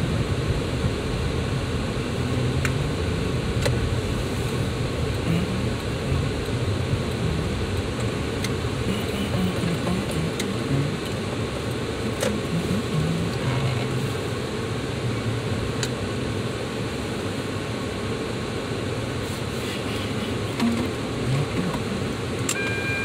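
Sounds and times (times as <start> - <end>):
climate fan blowing: 0.0 - 23.0
engine and tyre rumble: 0.0 - 23.0.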